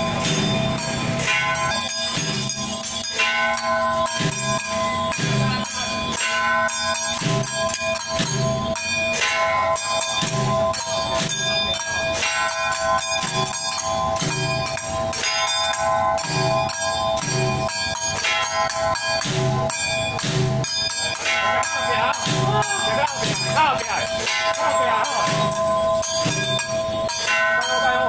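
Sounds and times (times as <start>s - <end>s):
drum thuds: 0.0s - 27.7s
metallic clashes: 0.0s - 28.0s
sustained ringing metal tones: 0.0s - 28.0s.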